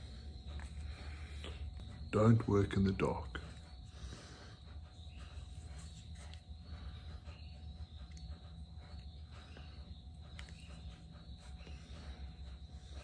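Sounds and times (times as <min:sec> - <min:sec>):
crickets chirping: 0:00.0 - 0:13.0
low background hum: 0:00.0 - 0:13.0.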